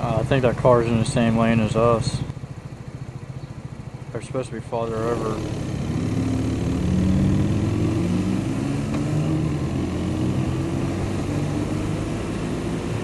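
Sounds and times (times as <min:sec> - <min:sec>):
road and wind noise: 0:00.0 - 0:13.0
vehicle engine running: 0:00.0 - 0:13.0.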